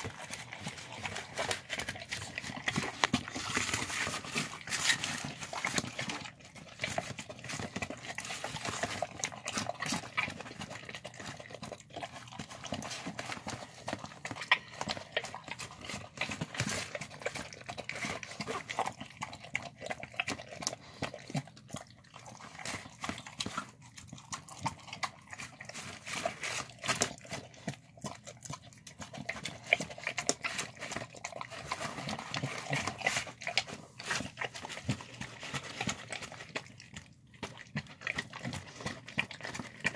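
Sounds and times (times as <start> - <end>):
dogs eating wet food: 0.0 - 39.9.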